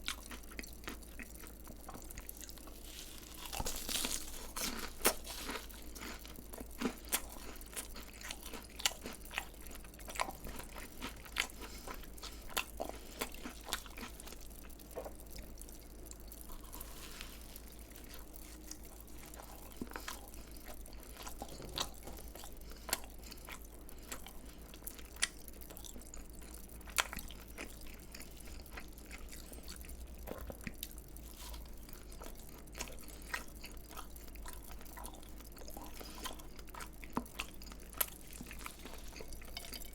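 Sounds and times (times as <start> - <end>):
chewing crispy fried food: 0.0 - 39.9.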